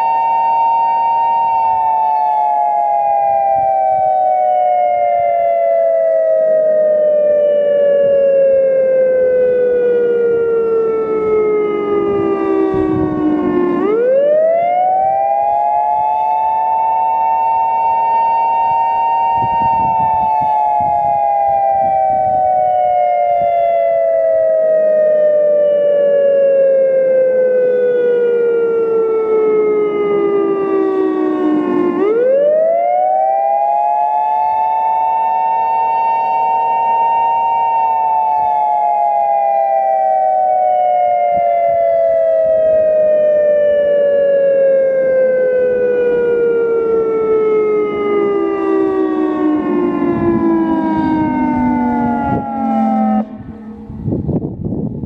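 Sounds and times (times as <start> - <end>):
electromechanical siren wailing: 0.0 - 55.0.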